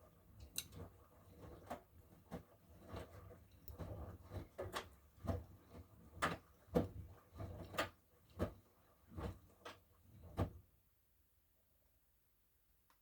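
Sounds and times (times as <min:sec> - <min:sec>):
washing machine running: 0:00.0 - 0:10.6.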